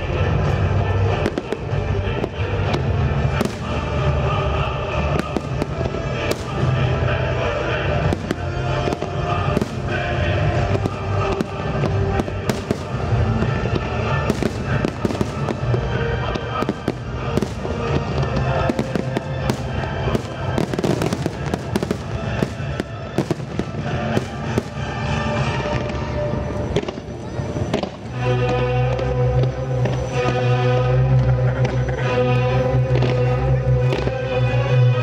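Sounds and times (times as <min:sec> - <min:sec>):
fireworks bangs and crackles: 0:00.0 - 0:35.0
music: 0:00.0 - 0:35.0.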